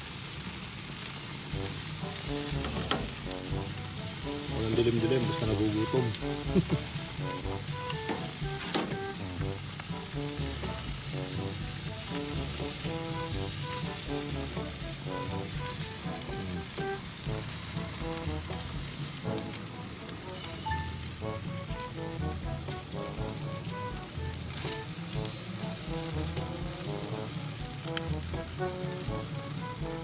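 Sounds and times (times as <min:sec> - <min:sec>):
ribs sizzling on grill: 0:00.0 - 0:30.0
light background music: 0:01.4 - 0:30.0.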